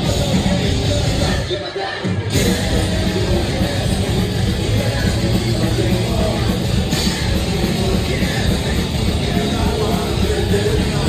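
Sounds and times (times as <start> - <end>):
drums: 0.0 - 11.0
electric guitar: 0.0 - 11.0.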